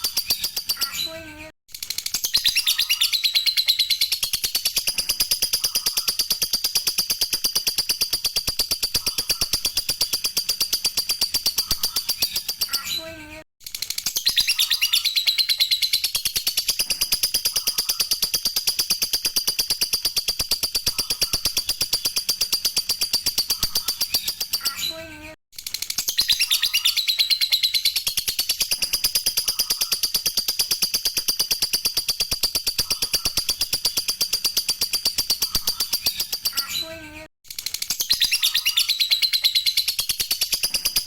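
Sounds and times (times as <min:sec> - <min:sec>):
lovebird chattering chirps: 0:02.3 - 0:12.9, 0:14.2 - 0:24.8, 0:26.2 - 0:36.7, 0:37.9 - 0:41.0.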